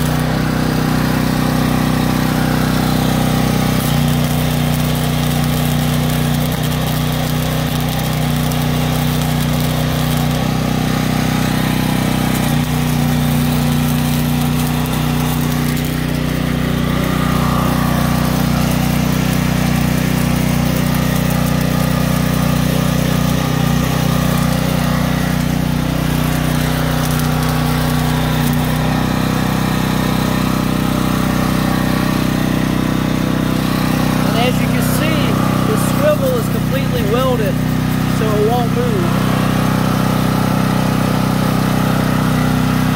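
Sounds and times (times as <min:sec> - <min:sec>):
engine running: 0:00.0 - 0:42.9
welder arc crackling: 0:00.0 - 0:42.9.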